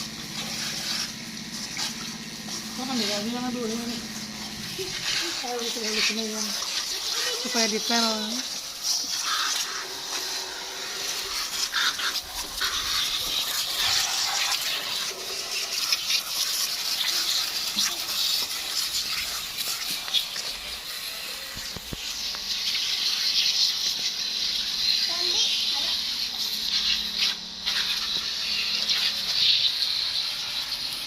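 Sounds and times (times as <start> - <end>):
water spraying and splashing: 0.0 - 31.0.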